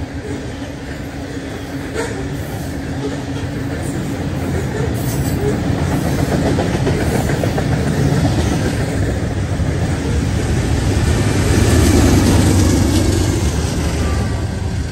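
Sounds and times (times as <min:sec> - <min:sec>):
diesel locomotive engine hum: 0:00.0 - 0:14.9.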